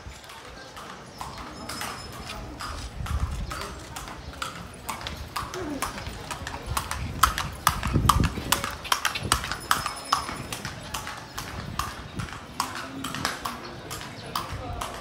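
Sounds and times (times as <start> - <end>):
hooves clip-clopping on cobblestones: 0.0 - 15.0.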